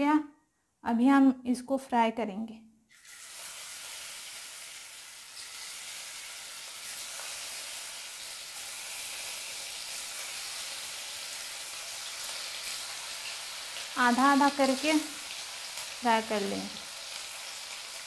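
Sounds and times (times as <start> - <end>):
hot oil sizzling: 2.9 - 18.0.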